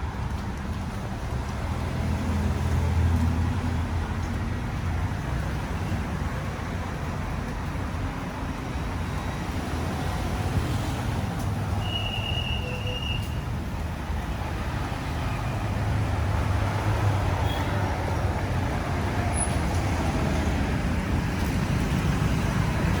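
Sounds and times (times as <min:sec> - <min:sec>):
passing motor vehicles rumble: 0:00.0 - 0:23.0.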